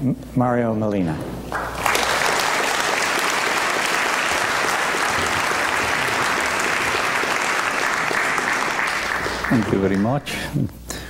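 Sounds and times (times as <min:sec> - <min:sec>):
audience applauding: 0:01.5 - 0:10.4.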